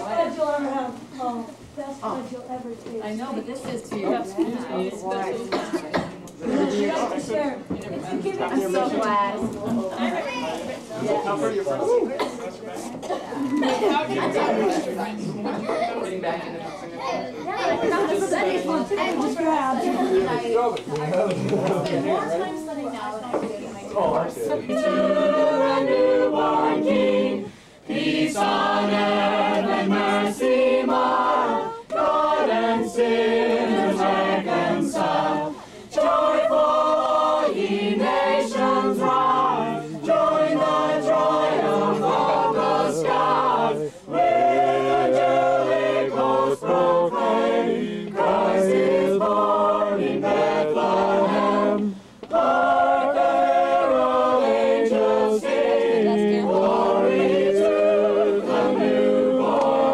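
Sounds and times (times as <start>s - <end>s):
group singing a carol unaccompanied: 0.0s - 1.4s, 3.4s - 12.4s, 13.0s - 16.5s, 17.6s - 59.9s.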